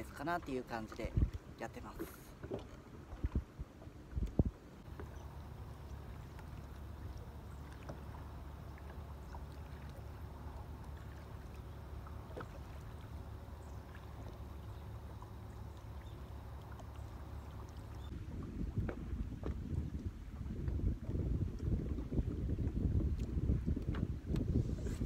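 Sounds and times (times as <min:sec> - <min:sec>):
boat engine low rumble: 0:00.0 - 0:25.0
water sounds: 0:00.0 - 0:25.0.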